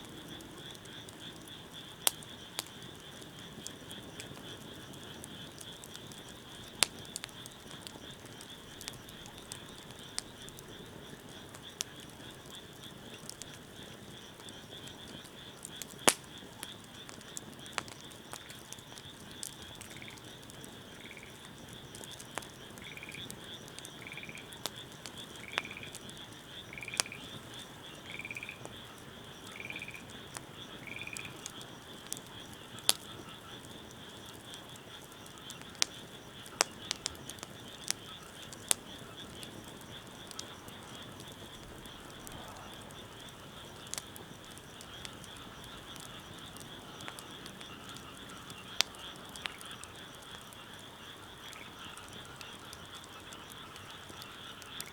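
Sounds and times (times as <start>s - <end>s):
chorus of frogs: 0.0s - 54.9s
wood fire crackling and popping: 0.0s - 54.9s.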